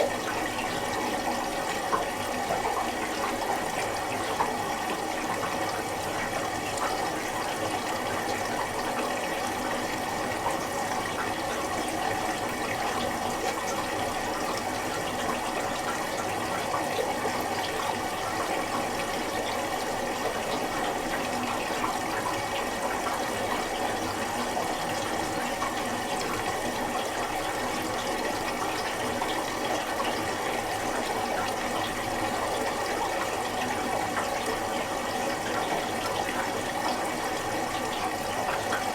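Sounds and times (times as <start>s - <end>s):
water rushing in washing machine drum: 0.0s - 38.9s.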